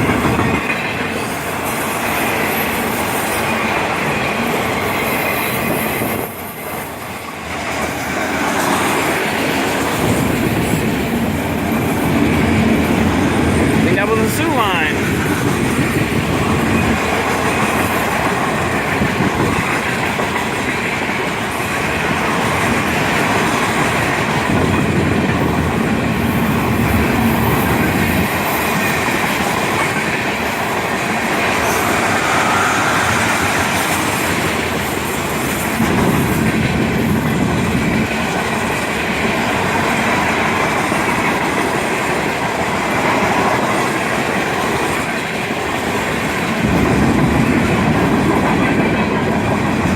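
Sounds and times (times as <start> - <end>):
train wheels clacking over rail joints: 0.0 - 13.8, 15.0 - 49.9.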